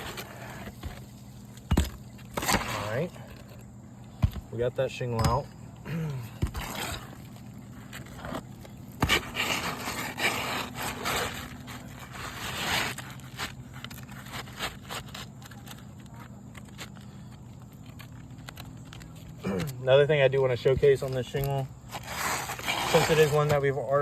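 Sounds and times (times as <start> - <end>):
roof shingle scraping and rustling: 0.0 - 24.0.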